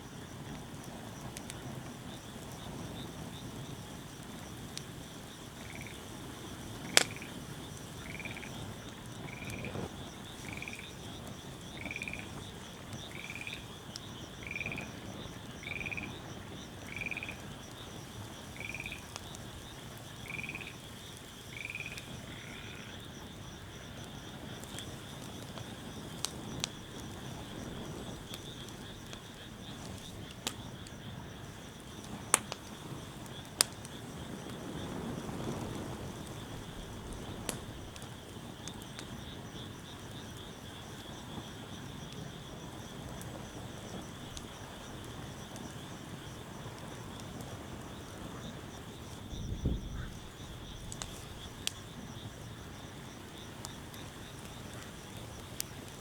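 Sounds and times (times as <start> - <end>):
fire popping and crackling: 0.0 - 56.0
wood fire burning: 0.0 - 56.0.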